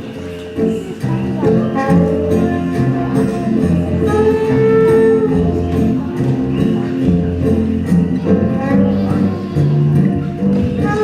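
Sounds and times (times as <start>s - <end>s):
loud instrumental music: 0.0s - 11.0s.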